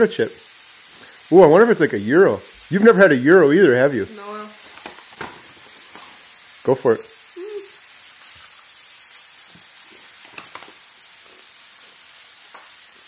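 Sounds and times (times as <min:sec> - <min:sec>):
steaks sizzling: 0:00.0 - 0:13.0.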